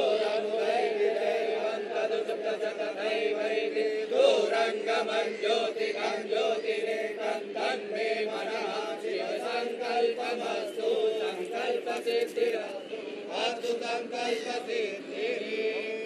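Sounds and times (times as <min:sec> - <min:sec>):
voices chanting: 0:00.0 - 0:16.0.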